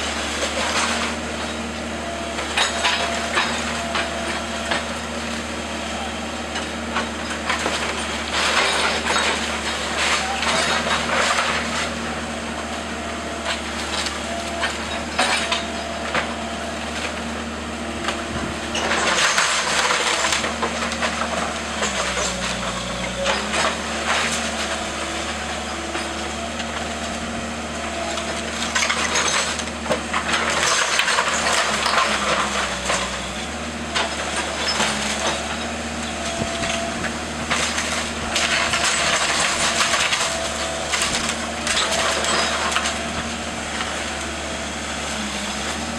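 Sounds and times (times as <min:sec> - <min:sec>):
demolition machine engine running: 0:00.0 - 0:45.9
wood cracking and crashing: 0:00.0 - 0:45.9.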